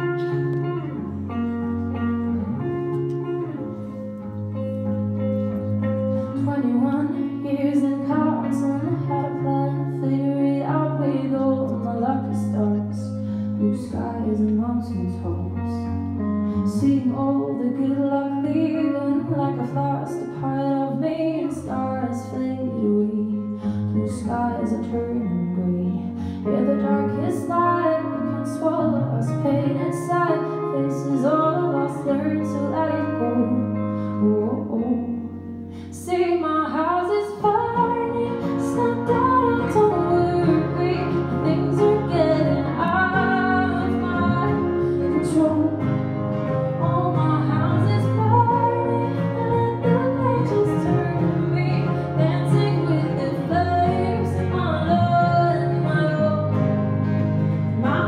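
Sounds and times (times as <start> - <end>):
electric guitar: 0.0 - 58.0
strummed acoustic guitar: 0.0 - 58.0
woman singing: 6.0 - 58.0.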